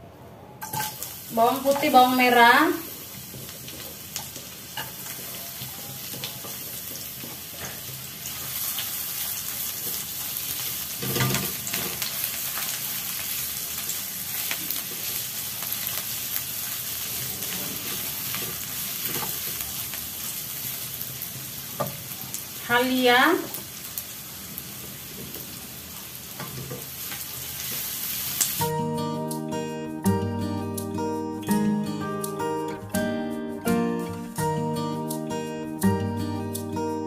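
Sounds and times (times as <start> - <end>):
aromatics sizzling in oil: 0.6 - 33.2.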